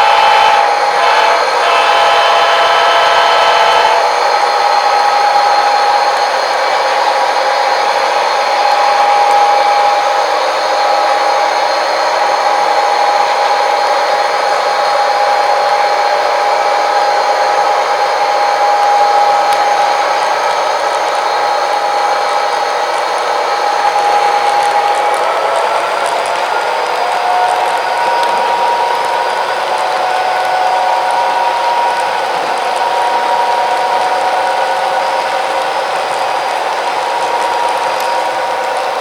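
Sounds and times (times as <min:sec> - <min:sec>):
wheels ticking over track: 0:00.0 - 0:39.0.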